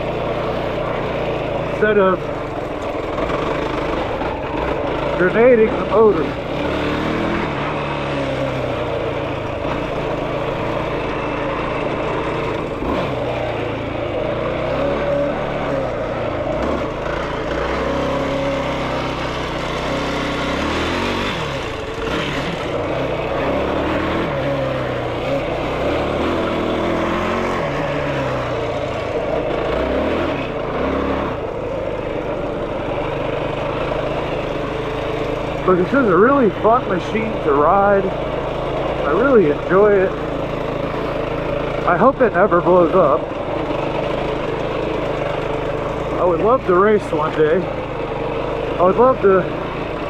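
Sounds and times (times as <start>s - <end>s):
quad bike engine revving: 0.0s - 50.0s.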